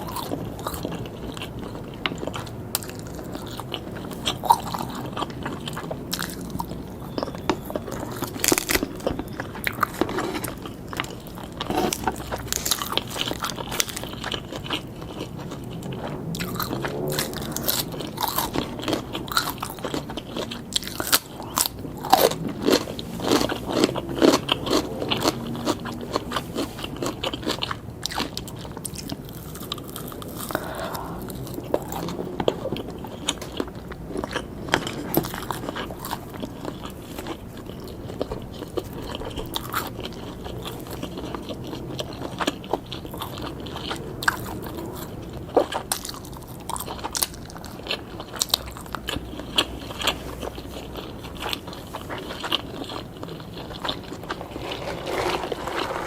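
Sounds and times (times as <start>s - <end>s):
biting and chewing crunchy food: 0.0s - 56.0s.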